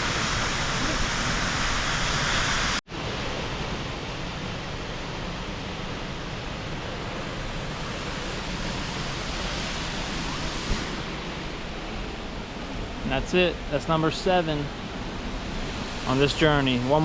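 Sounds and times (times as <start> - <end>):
waterfall rushing: 0.0 - 4.6, 5.2 - 17.0.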